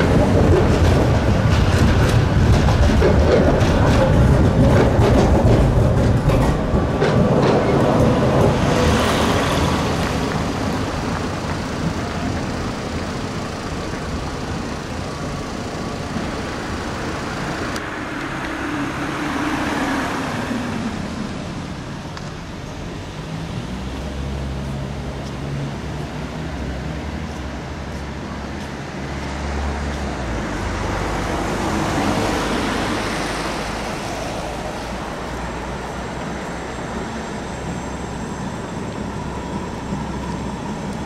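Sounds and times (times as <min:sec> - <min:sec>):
vehicle passing: 0:00.0 - 0:14.4, 0:15.8 - 0:22.0, 0:23.0 - 0:41.0
street traffic noise: 0:00.0 - 0:41.0
tram passing: 0:00.0 - 0:41.0.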